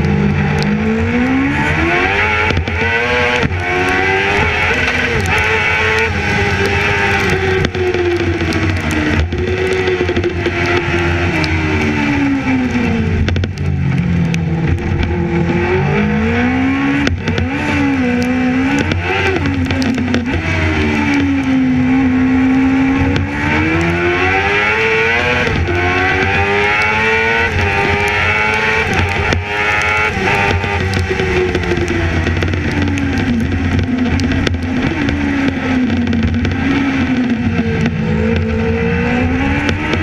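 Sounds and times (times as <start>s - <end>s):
racing engine revving: 0.0s - 40.0s.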